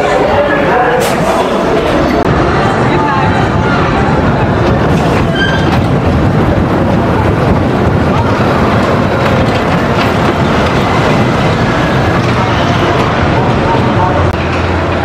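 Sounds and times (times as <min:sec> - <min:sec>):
roller coaster wheels rumbling on track: 0:00.0 - 0:15.0.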